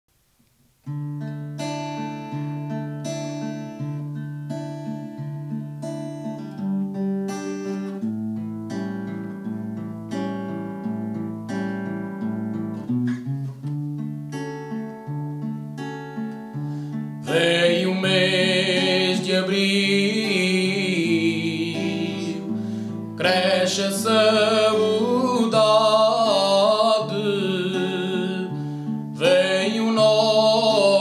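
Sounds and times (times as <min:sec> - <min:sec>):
acoustic guitar strumming chords: 0:00.6 - 0:31.0.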